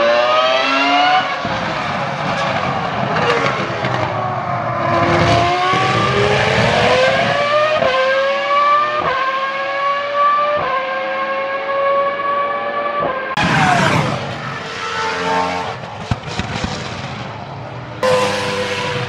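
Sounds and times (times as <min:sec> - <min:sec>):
racing car engine accelerating: 0:00.0 - 0:16.6, 0:17.9 - 0:19.0.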